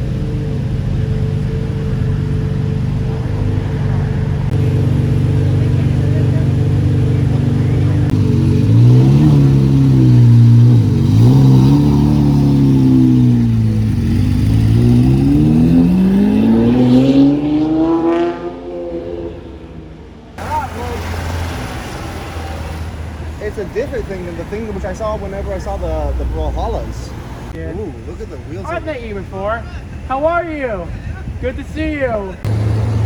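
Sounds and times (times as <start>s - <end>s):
car engine revving: 0.0s - 30.1s, 32.4s - 33.0s.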